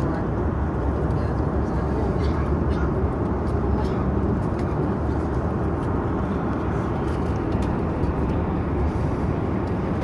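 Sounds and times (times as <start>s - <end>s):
airliner cabin noise: 0.0s - 10.0s.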